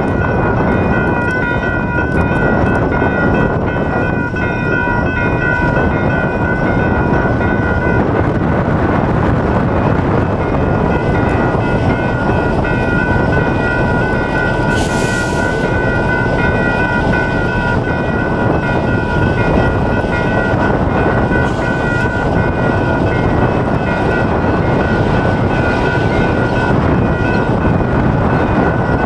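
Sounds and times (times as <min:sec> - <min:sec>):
electronic crossing bells ringing: 0:00.0 - 0:08.1, 0:10.4 - 0:29.0
wind on microphone: 0:00.0 - 0:29.0.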